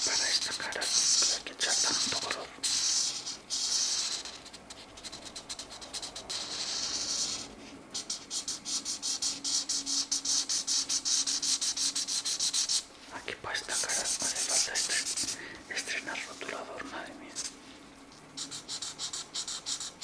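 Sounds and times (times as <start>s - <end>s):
marker scratching on paper: 0.0s - 12.9s, 13.5s - 17.6s, 18.4s - 20.0s.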